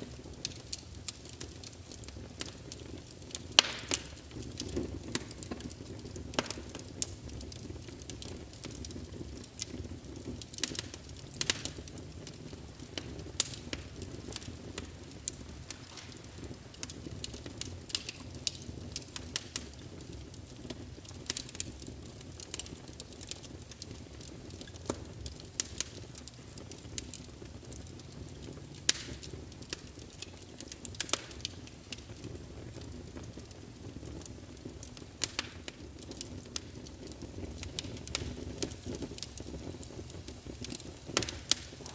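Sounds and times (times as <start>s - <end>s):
low fire rumble: 0.0s - 41.9s
wood fire crackling: 0.0s - 41.9s.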